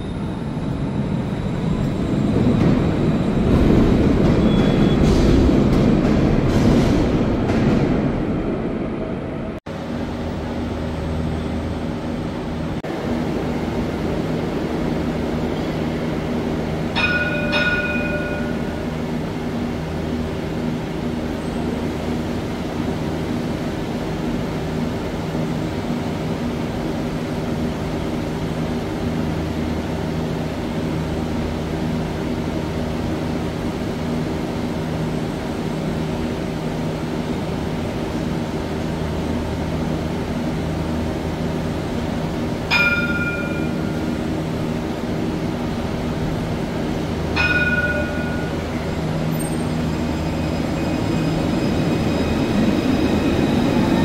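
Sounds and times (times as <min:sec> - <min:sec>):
electrical hum of trams: 0:00.0 - 0:54.0.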